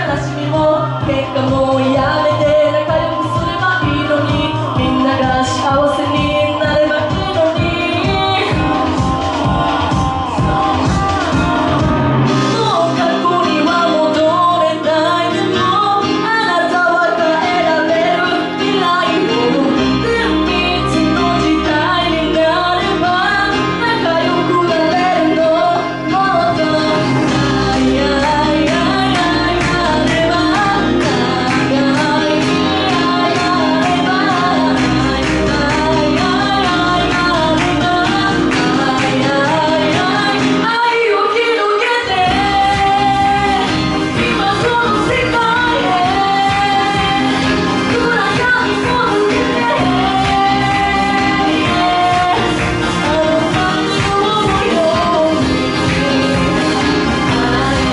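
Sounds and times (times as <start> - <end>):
backing track with bass and beat: 0.0 - 40.7, 42.0 - 57.9
woman singing into microphone: 0.0 - 57.9.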